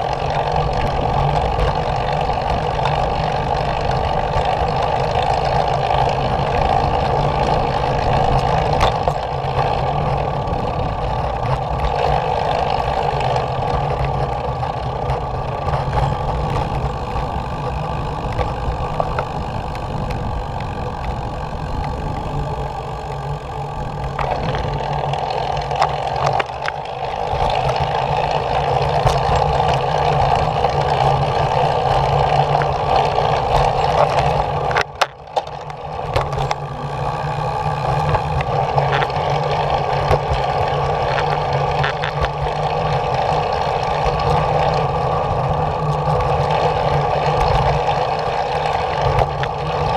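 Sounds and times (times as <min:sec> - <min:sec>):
skateboard wheels rolling on concrete: 0:00.0 - 0:49.9.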